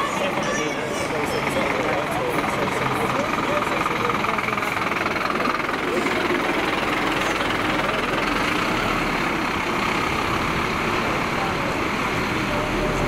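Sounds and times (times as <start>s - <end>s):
fire engine diesel engine passing: 0.0s - 13.0s.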